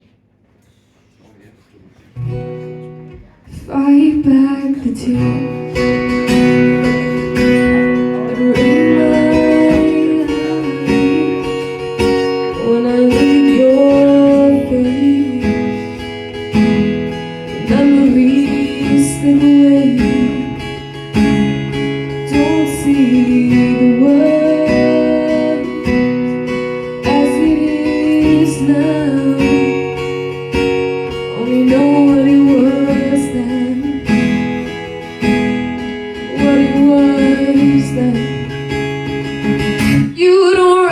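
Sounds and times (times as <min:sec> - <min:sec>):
acoustic guitar playing: 0:02.1 - 0:40.9
woman singing: 0:03.3 - 0:34.5, 0:35.3 - 0:39.2, 0:39.8 - 0:40.9.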